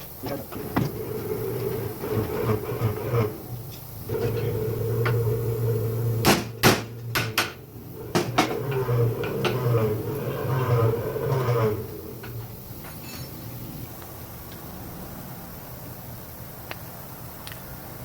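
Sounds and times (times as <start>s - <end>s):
steady low hum: 0.0s - 17.3s.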